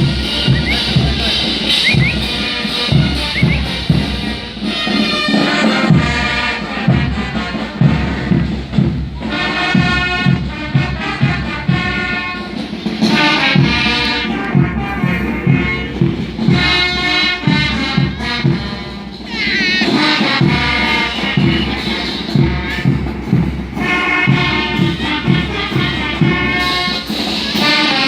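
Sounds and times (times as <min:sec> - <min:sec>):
brass band playing: 0:00.0 - 0:28.0
drum beat: 0:00.0 - 0:28.0.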